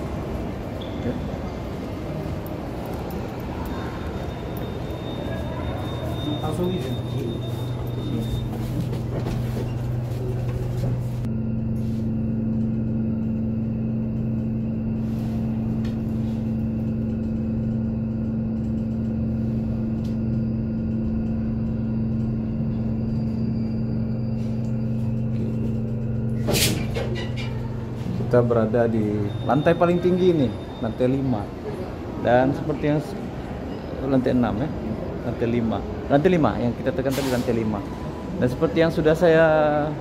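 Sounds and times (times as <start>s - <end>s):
lift car humming: 0.0s - 34.0s.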